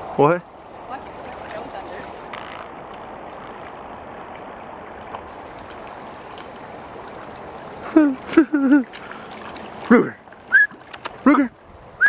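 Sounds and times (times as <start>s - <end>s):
creek running over rocks: 0.0s - 12.0s.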